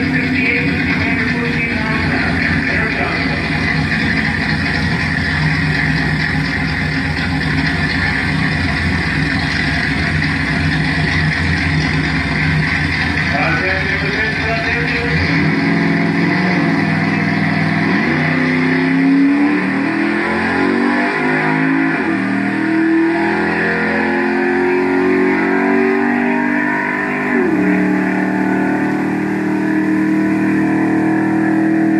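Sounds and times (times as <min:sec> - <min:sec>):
engine at full throttle: 0:00.0 - 0:31.9.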